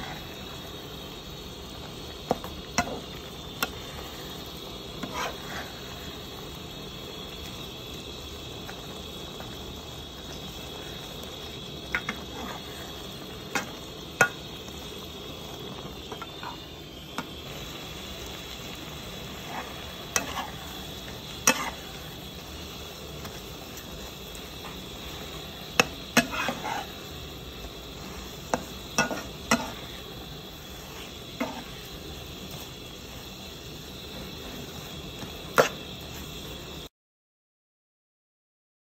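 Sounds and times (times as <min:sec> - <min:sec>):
food sizzling in a wok: 0:00.0 - 0:36.9.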